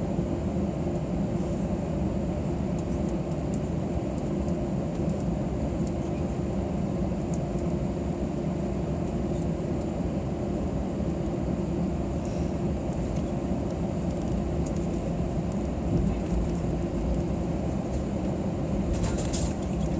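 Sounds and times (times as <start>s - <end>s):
airplane cabin rumble and hum: 0.0s - 19.9s.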